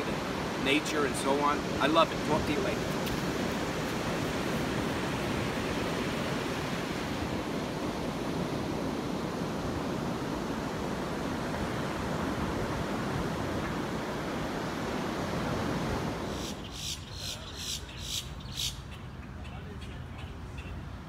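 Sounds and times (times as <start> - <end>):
ocean surf washing onto beach: 0.0 - 17.9.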